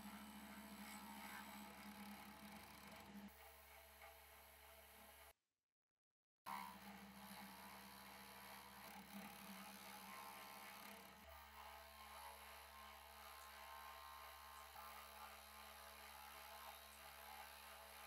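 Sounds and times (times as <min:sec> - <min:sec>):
bench grinder motor humming: 0:00.0 - 0:05.2, 0:06.5 - 0:18.0.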